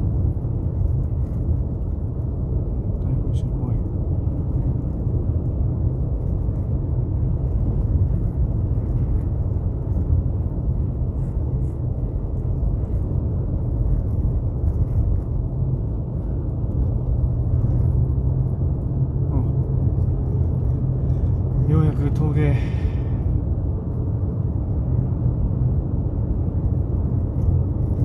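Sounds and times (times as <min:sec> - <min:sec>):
car driving on snowy road: 0:00.0 - 0:28.0.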